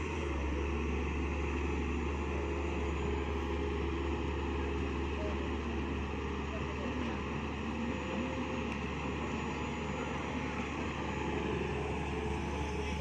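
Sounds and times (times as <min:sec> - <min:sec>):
mini excavator engine running: 0:00.0 - 0:13.0.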